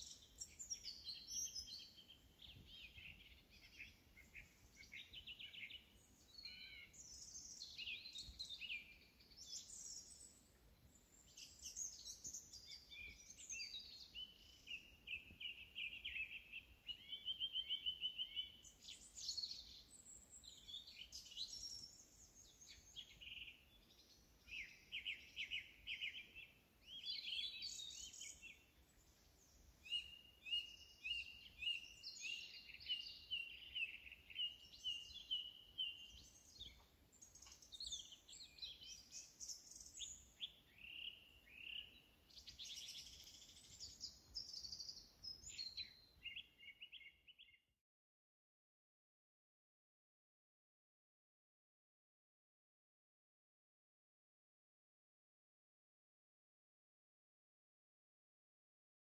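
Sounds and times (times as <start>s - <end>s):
songbirds chirping and trilling: 0.0s - 47.7s.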